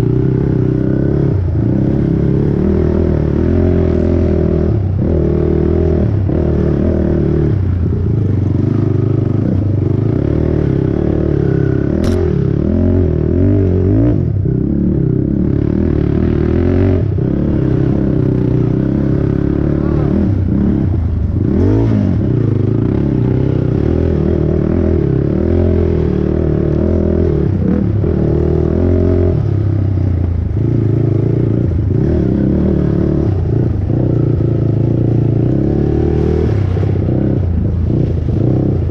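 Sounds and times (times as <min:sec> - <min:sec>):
quad bike engine revving: 0:00.0 - 0:38.9.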